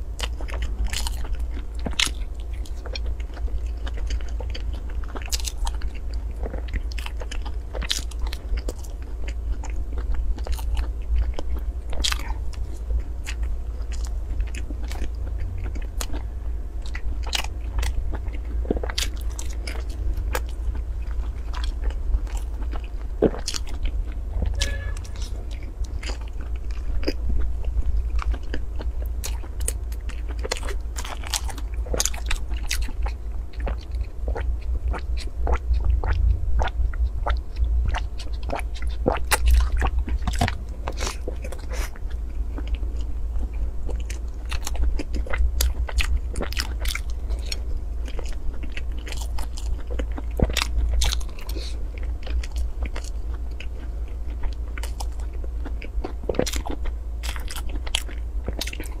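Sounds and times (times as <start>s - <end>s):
close eating and wet chewing: 0.0s - 59.0s
steady low hum: 0.0s - 59.0s.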